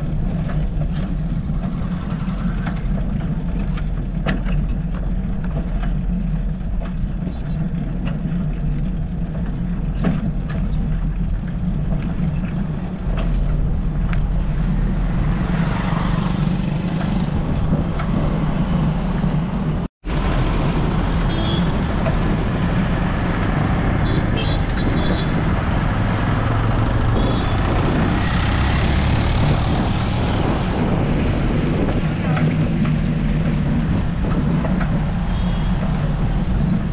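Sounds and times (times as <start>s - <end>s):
road noise: 0.0s - 36.9s
vehicle traffic: 0.0s - 36.9s
wind rumble: 0.0s - 36.9s.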